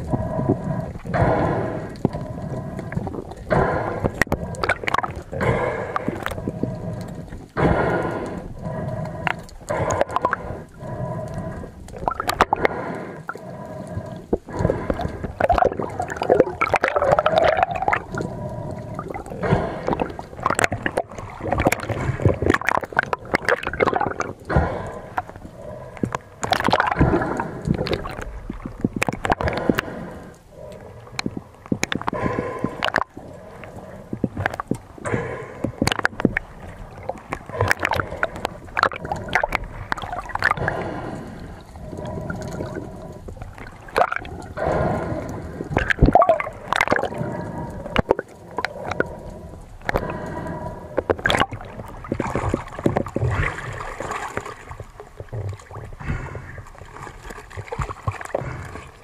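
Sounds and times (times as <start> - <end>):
water gurgling and sloshing: 0.0 - 59.0.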